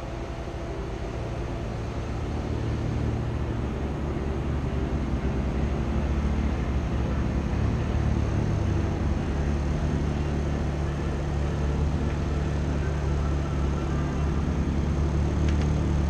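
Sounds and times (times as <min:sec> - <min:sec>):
car creeping forward: 0:00.0 - 0:16.0.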